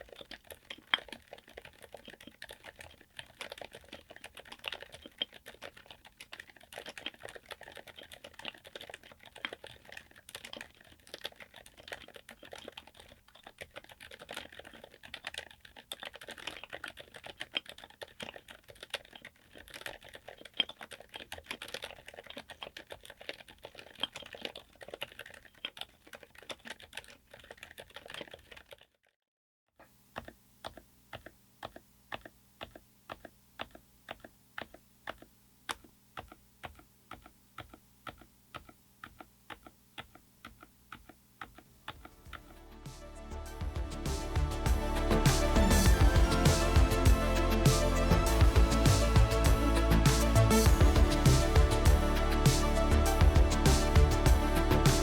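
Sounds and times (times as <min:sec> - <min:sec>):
fast typing on mechanical keyboard: 0:00.0 - 0:29.0, 0:30.2 - 0:42.6, 0:43.6 - 0:55.0.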